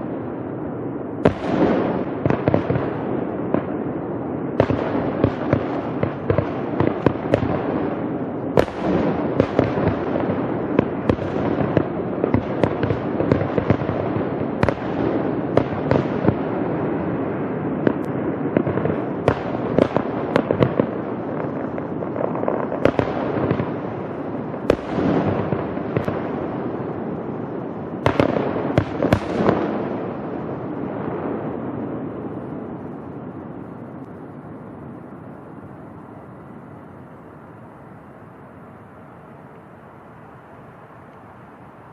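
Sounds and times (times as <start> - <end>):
sharp firework cracks: 0.0 - 37.1
fireworks rumble: 0.0 - 41.9.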